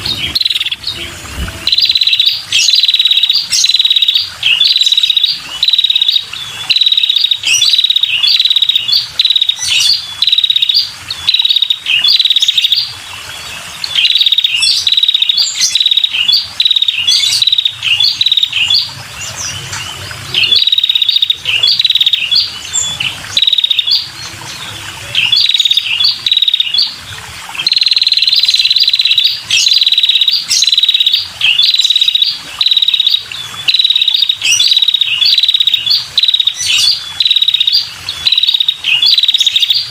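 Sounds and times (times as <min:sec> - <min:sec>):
bird calling in high trills: 0:00.0 - 0:12.9, 0:13.8 - 0:27.0, 0:27.6 - 0:39.9.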